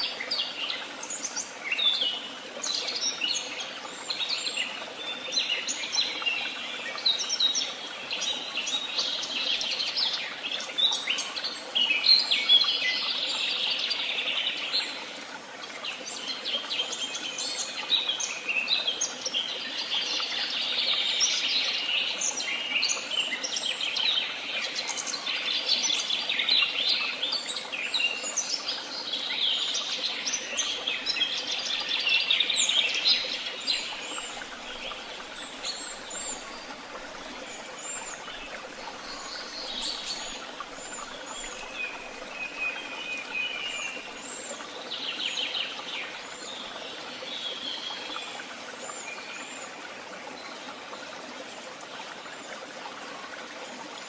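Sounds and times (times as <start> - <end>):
songbirds chirping and trilling: 0.0 - 51.3.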